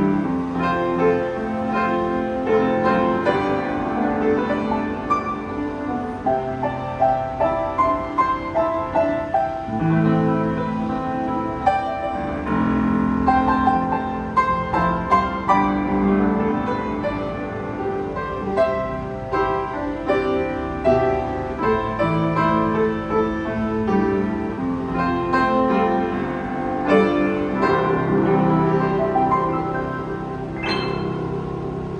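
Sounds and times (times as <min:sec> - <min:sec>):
upright piano melody over chords: 0:00.0 - 0:31.9.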